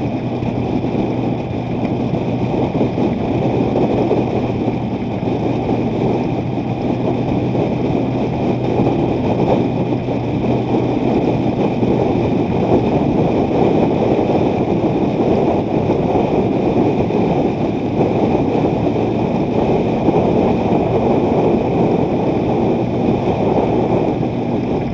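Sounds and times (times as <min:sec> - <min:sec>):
road noise: 0:00.0 - 0:24.9
vehicle engine: 0:00.0 - 0:24.9
wind buffeting microphone: 0:00.0 - 0:24.9.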